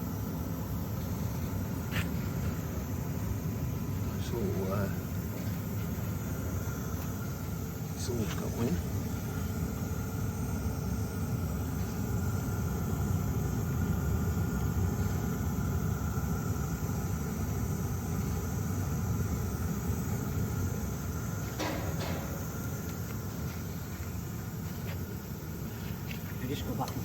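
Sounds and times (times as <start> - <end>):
air heater running: 0.0 - 27.0
faint steady whine: 0.0 - 27.0.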